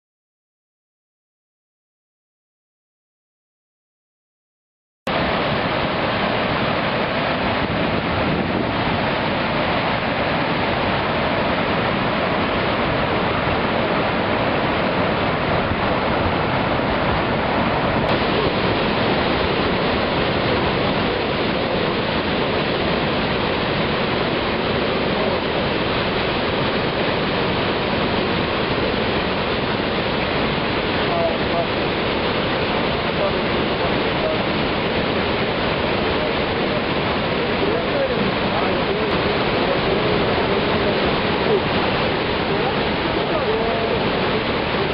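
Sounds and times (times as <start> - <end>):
waterfall crashing: 5.1 - 44.9.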